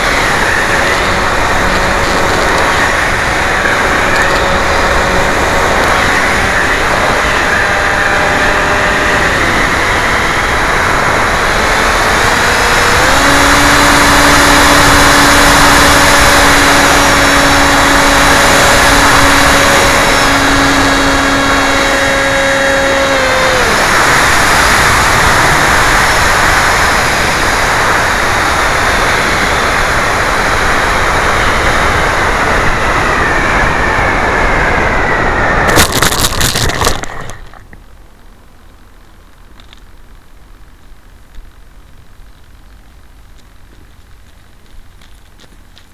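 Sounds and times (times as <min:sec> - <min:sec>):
electric motor and propeller whine: 0:00.0 - 0:37.7
wind rushing over microphone: 0:00.0 - 0:37.8.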